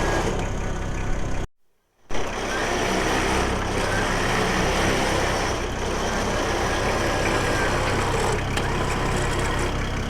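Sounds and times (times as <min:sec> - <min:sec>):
truck engine idling: 0:00.0 - 0:01.5, 0:02.1 - 0:10.0.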